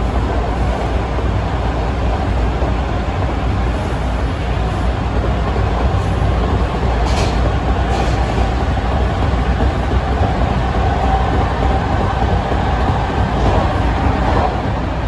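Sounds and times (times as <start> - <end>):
subway car rumble: 0.0 - 15.0.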